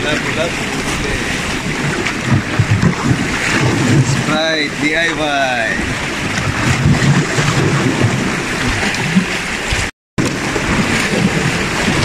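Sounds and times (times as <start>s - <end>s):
sea waves washing against rocks: 0.0s - 12.0s
wind buffeting microphone: 0.0s - 12.0s.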